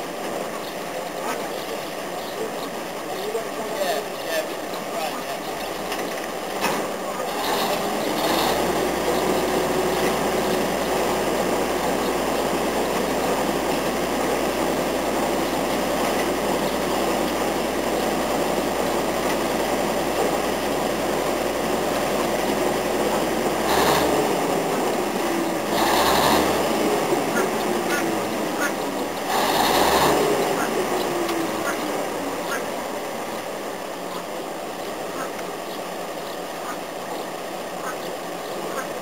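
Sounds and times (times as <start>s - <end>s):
crane engine running: 0.0s - 39.0s.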